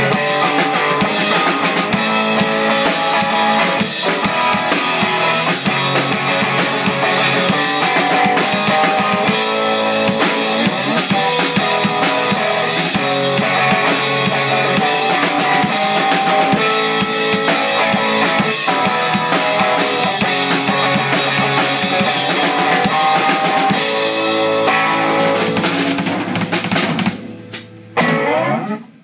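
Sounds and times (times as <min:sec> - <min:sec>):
drum kit: 0:00.0 - 0:29.0
electric guitar: 0:00.0 - 0:29.0.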